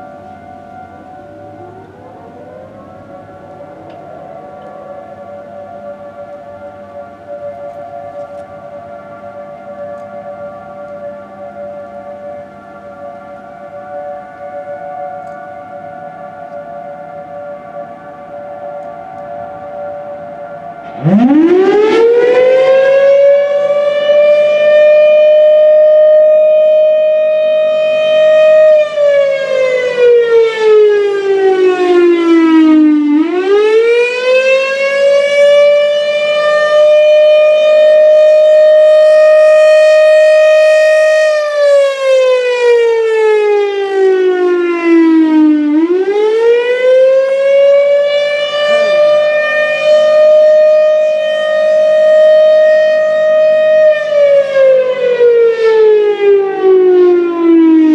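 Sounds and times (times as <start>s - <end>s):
warning siren: 0.0s - 57.9s.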